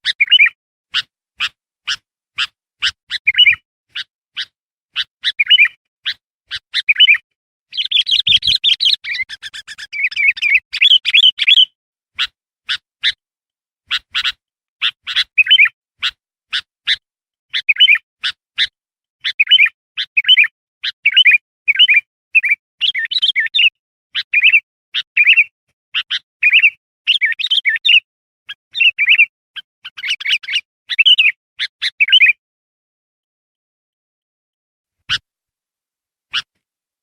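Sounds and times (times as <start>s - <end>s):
bird calling with warbled phrases: 0.0s - 13.2s, 13.8s - 32.4s, 36.3s - 36.5s.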